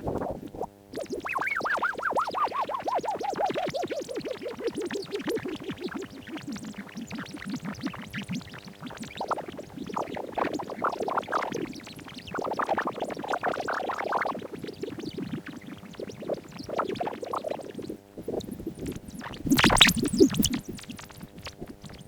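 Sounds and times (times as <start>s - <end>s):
electrical hum: 0.0s - 22.0s
scratchy electronic chatter: 0.0s - 22.0s.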